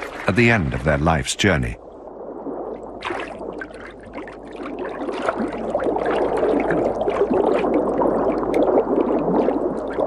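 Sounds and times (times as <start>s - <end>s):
river water splashing and gurgling: 0.0s - 1.6s, 3.0s - 10.0s.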